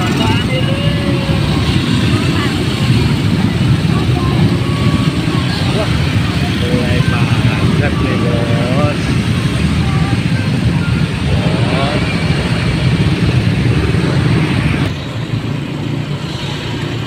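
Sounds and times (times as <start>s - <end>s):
motor scooter engines rumbling: 0.0s - 17.0s
scattered voices: 0.0s - 17.0s.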